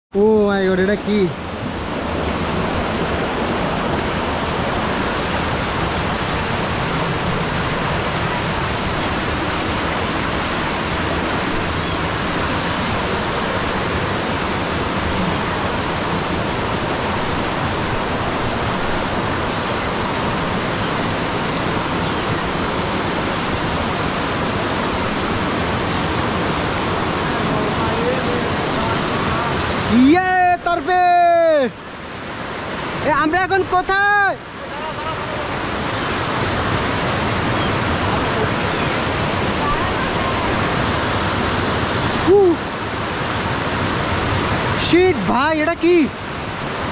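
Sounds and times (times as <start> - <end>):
stream rushing over cascades: 0.1 - 46.9.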